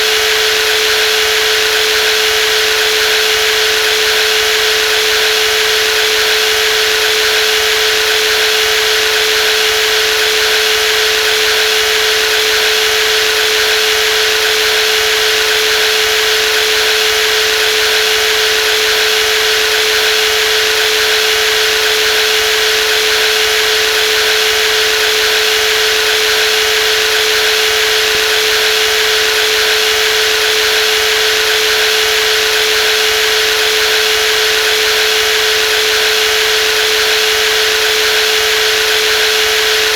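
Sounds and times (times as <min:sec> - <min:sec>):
jigsaw motor whine: 0:00.0 - 0:39.9.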